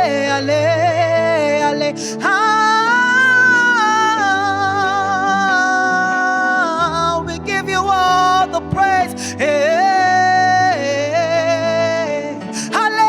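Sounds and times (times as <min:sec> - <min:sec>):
instrumental backing: 0:00.0 - 0:13.0
person singing gospel: 0:00.0 - 0:13.0.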